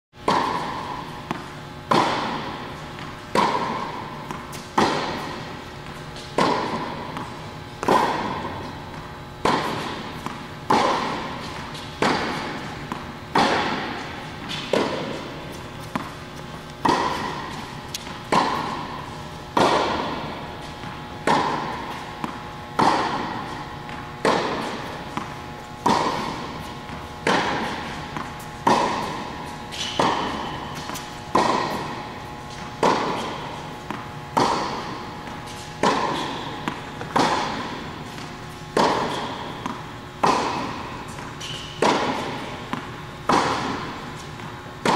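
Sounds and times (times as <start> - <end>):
ball bounces: 0.2 - 44.9
tennis balls struck by rackets: 0.2 - 44.9.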